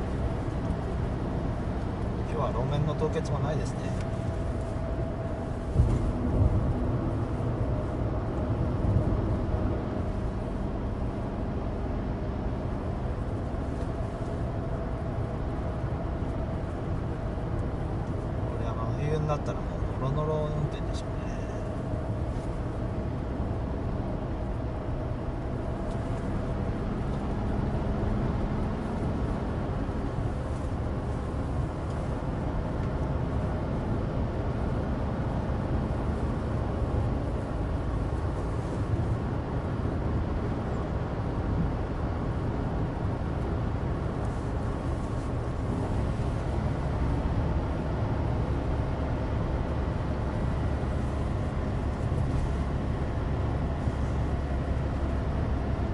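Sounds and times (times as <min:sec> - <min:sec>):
road and tyre noise: 0:00.0 - 0:55.9.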